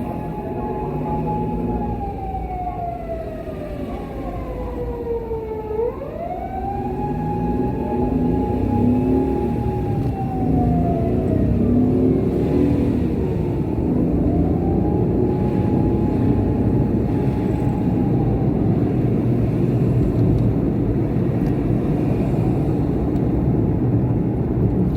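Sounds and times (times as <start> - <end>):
wail siren: 0.0 - 20.4
car road and engine rumble: 0.0 - 24.9.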